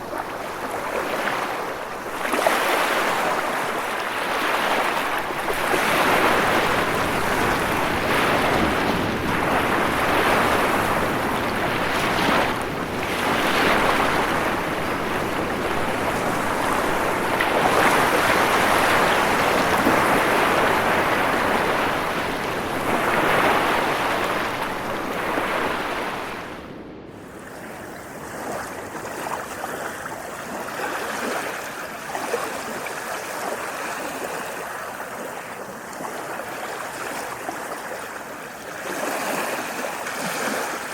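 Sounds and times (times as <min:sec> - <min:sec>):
ocean waves breaking: 0:00.0 - 0:40.9
steady rush of water: 0:00.0 - 0:40.9.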